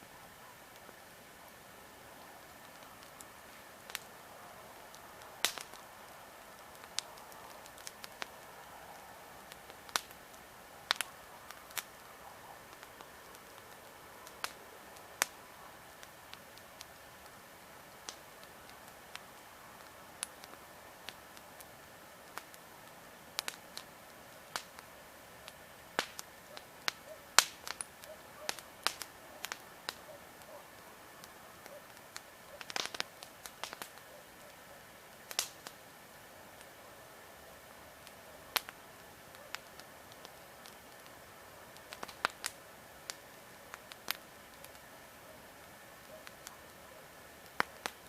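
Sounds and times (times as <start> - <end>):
campfire crackling and popping: 0.0 - 48.0
low hiss of fire: 0.0 - 48.0.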